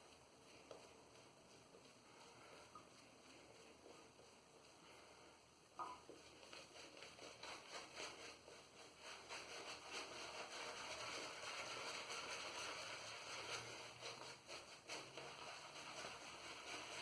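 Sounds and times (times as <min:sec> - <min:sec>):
shaving brush swishing lather: 0:00.0 - 0:17.0.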